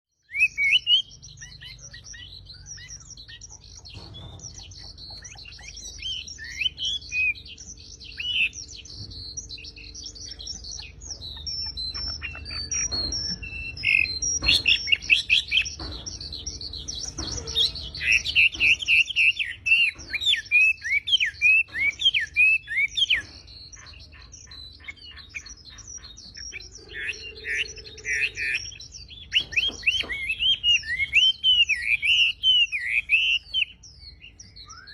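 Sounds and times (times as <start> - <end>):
songbird chirps and trills: 0.2 - 34.9.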